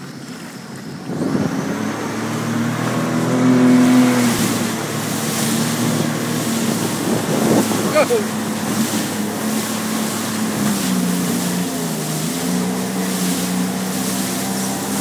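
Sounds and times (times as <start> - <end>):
water rushing and splashing: 0.0 - 15.0
watercraft engine speeding up: 0.0 - 15.0.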